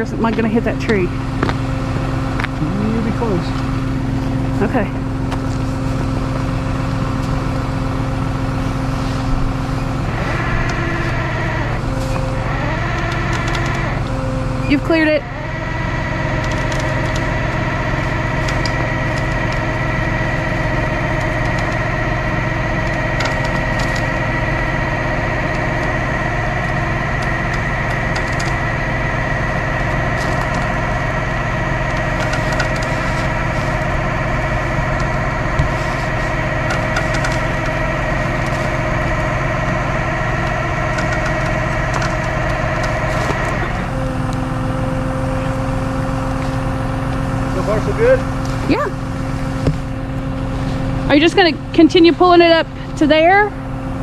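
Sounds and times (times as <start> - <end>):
tow truck engine running: 0.0 - 54.0
winch whining: 0.0 - 54.0.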